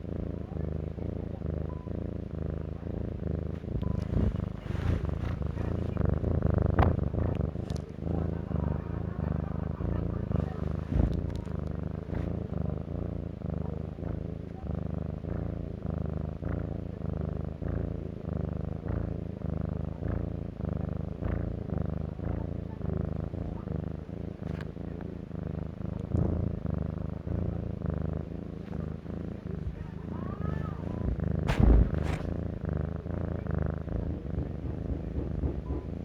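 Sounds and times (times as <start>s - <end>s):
large cat purring: 0.0s - 36.0s.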